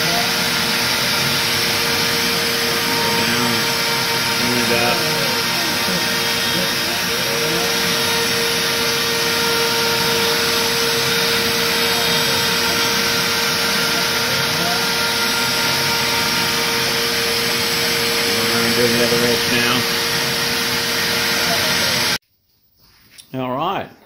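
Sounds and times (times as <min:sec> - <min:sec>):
router motor whining: 0:00.0 - 0:22.2
shop vacuum hissing: 0:00.0 - 0:22.2.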